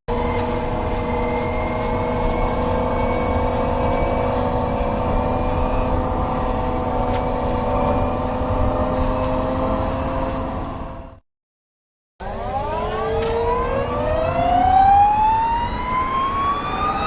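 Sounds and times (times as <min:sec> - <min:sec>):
electric motor whine: 0:00.1 - 0:11.2, 0:12.2 - 0:17.0.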